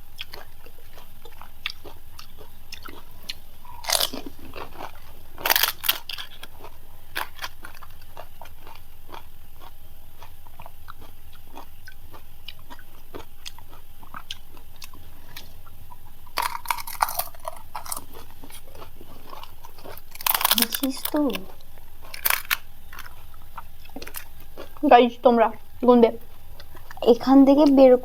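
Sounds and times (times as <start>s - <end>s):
crisp shells crunching when chewed: 0.0s - 24.9s, 25.5s - 27.8s.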